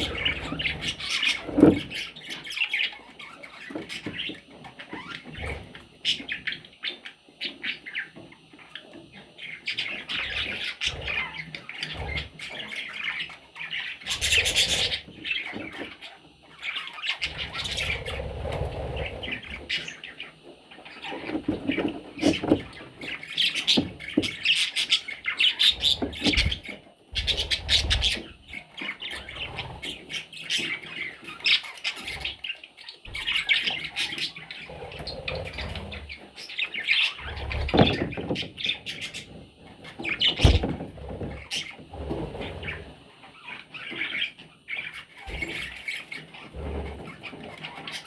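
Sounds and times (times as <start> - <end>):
baby birds chirping and squawking: 0.0 - 48.0.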